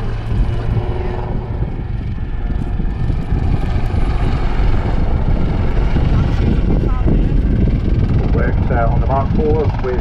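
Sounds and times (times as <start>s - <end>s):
helicopter rotor rumble: 0.0s - 10.0s.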